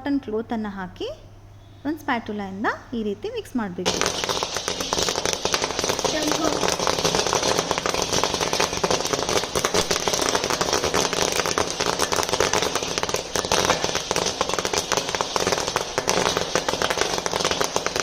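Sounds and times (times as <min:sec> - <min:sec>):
grains popping in a pan: 0:03.3 - 0:18.0.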